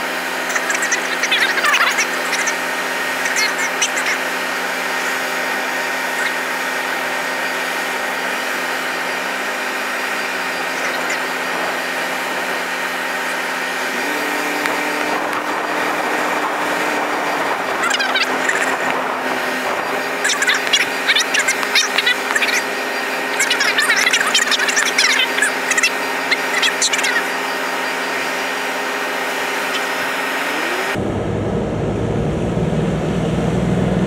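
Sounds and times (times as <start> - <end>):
truck engine droning: 0.0 - 34.0.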